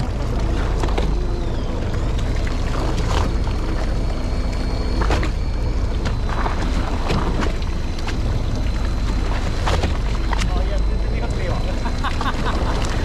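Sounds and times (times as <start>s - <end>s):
boat engine rumble: 0.0s - 13.0s
water swishing against hull: 0.0s - 13.0s.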